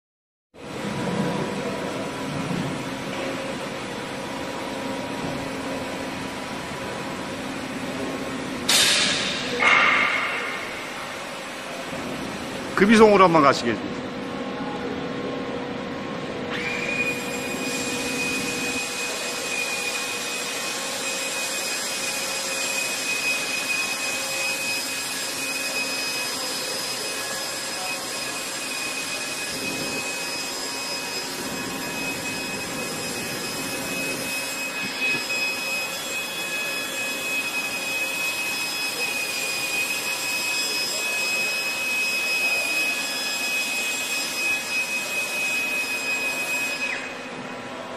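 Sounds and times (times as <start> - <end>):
lathe carriage whine and hiss: 0.6 - 47.9.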